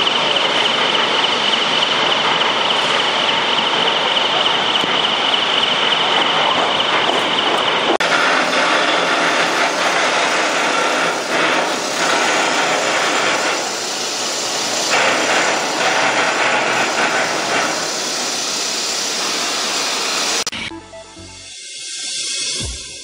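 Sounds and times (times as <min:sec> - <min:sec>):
rough hissing machinery noise: 0:00.0 - 0:20.5, 0:21.3 - 0:23.0.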